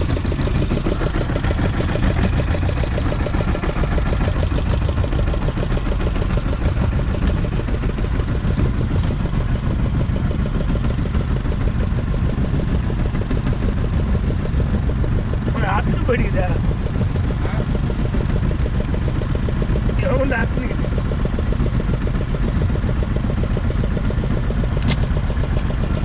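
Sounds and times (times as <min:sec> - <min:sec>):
boat engine idling with chugging: 0:00.0 - 0:26.0.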